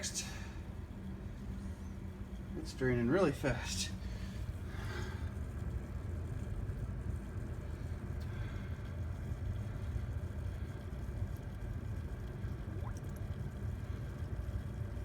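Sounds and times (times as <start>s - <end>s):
sump pump humming: 0.0s - 15.0s.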